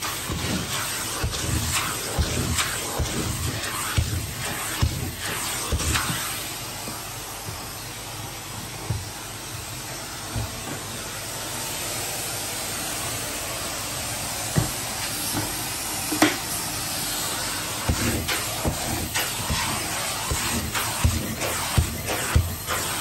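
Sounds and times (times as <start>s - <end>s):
vacuum cleaner suction hiss: 0.0s - 23.0s.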